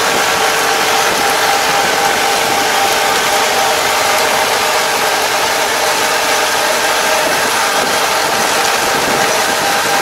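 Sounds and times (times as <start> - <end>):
levee-plastering machine: 0.0 - 10.0
tractor diesel engine running: 0.0 - 10.0.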